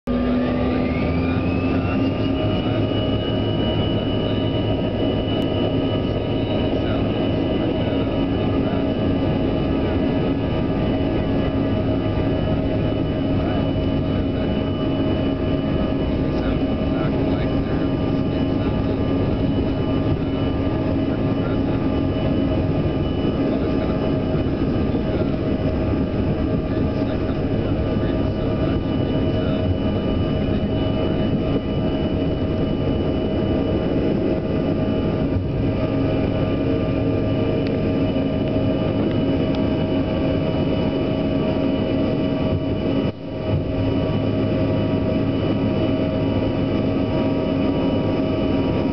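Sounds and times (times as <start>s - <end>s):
jet engines rushing and whining: 0.1s - 48.9s.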